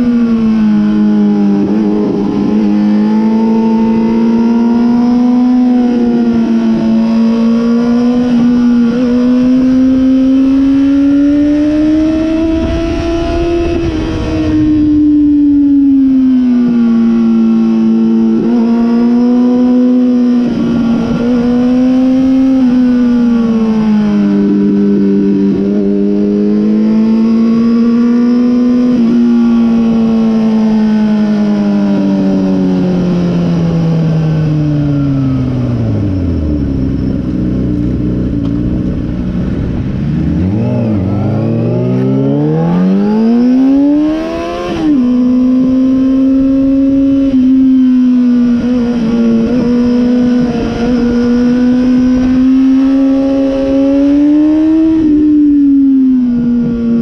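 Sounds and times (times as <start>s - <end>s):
motorcycle engine revving: 0.0s - 57.0s
wind rushing over microphone: 0.0s - 57.0s.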